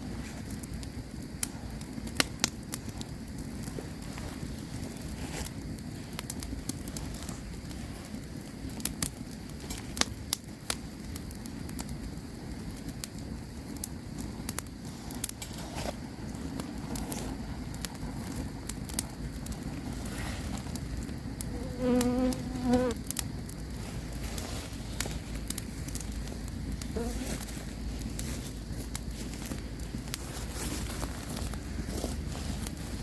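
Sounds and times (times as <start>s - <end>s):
flames rushing: 0.0s - 33.0s
wood crackling and popping: 0.0s - 33.0s.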